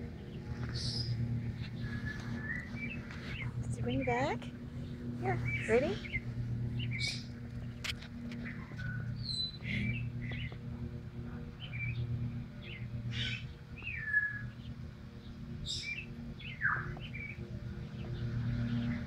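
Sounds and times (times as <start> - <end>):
songbirds chirping: 0.0 - 19.0
steady low hum: 0.0 - 19.0.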